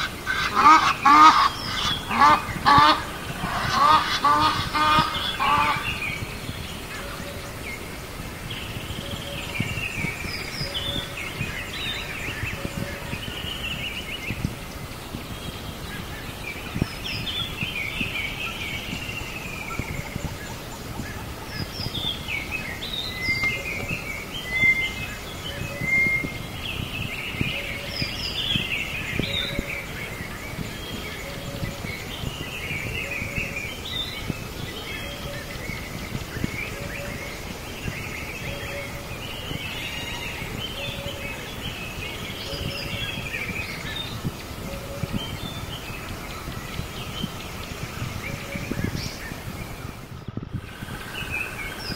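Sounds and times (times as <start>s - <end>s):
birds chirping and singing: 0.0s - 51.9s
outdoor background hiss: 0.0s - 51.9s.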